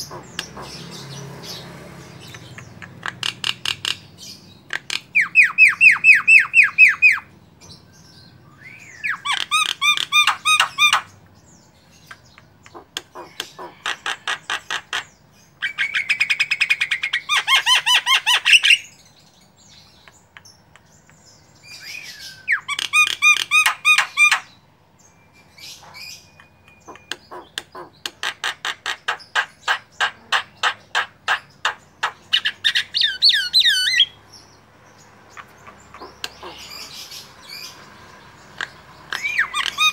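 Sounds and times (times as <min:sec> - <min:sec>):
bird singing fast repeated notes: 0:00.0 - 0:39.9.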